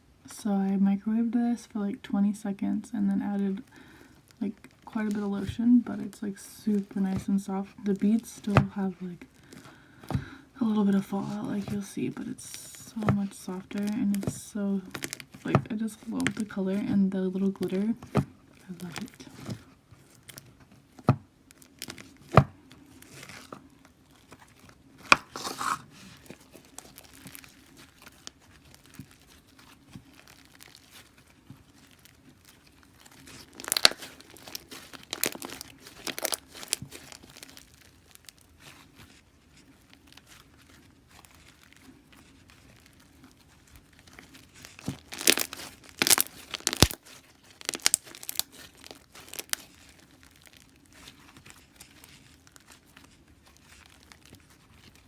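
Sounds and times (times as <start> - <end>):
slime crackling and popping: 3.4 - 55.0.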